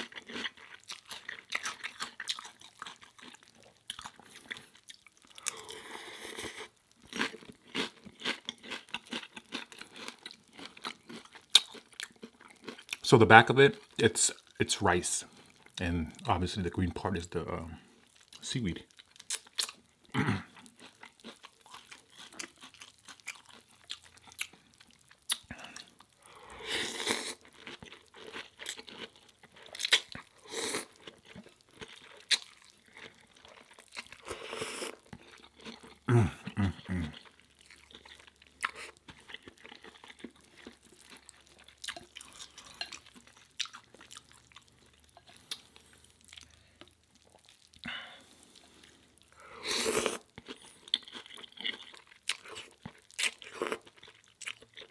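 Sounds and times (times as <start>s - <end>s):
person chewing crunchy crisps: 0.0s - 54.9s.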